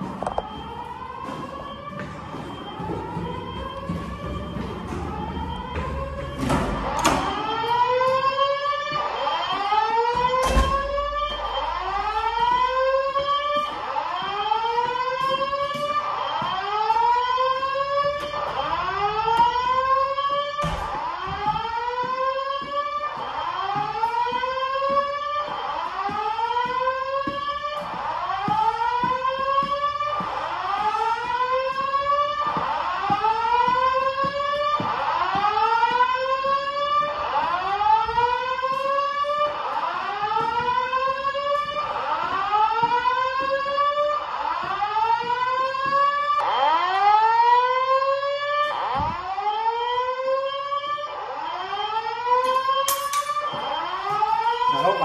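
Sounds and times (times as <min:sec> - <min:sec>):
fire alarm whoop tone: 0:00.0 - 0:55.0.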